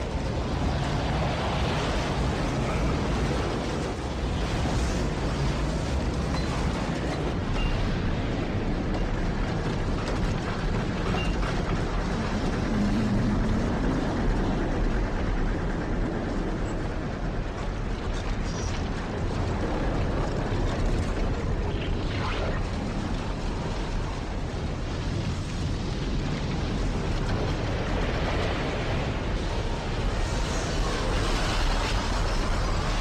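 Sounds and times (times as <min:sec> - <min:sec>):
rumble of tornado wind: 0:00.0 - 0:33.0.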